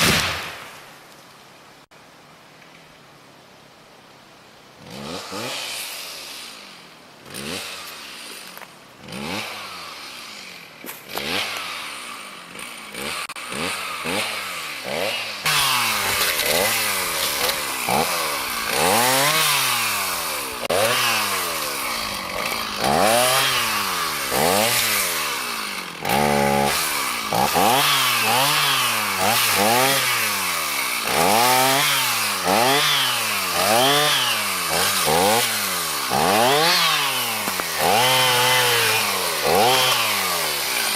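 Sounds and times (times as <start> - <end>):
chainsaw revving and cutting: 4.8 - 40.9.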